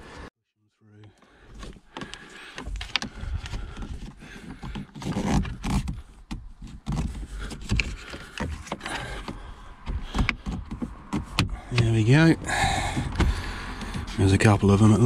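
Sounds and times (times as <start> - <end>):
plastic trim creaking and knocking: 1.5 - 14.9.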